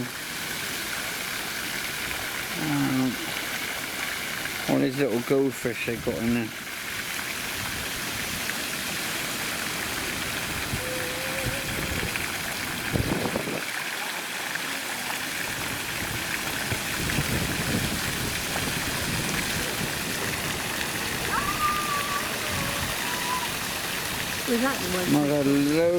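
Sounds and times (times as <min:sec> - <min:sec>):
water trickling and splashing: 0:00.0 - 0:25.9.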